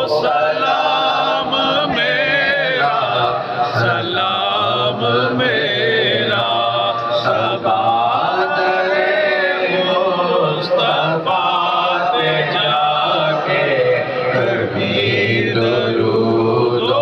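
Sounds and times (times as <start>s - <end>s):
man singing into a microphone: 0.0s - 17.0s
men chanting devotional recitation: 0.0s - 17.0s.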